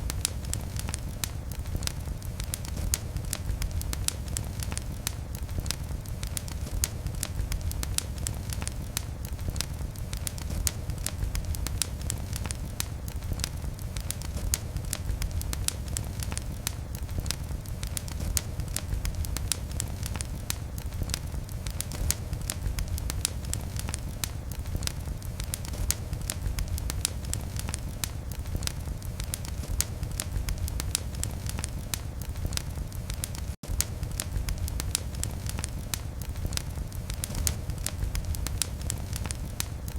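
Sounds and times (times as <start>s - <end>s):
fire crackling in a fireplace: 0.0s - 39.9s.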